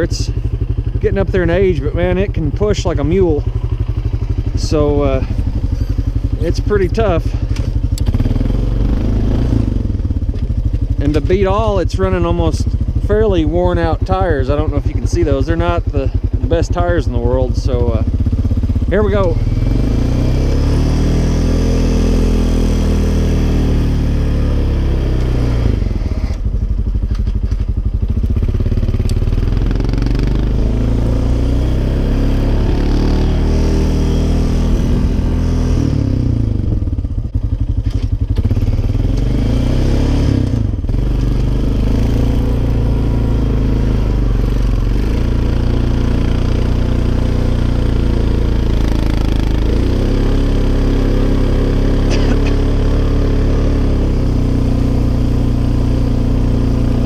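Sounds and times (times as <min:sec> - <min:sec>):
atv engine working hard: 0:00.0 - 0:57.0.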